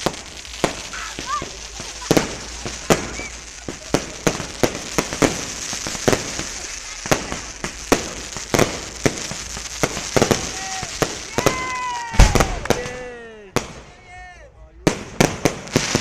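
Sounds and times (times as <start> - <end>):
fireworks bangs: 0.0 - 16.0
steady hiss: 0.0 - 16.0.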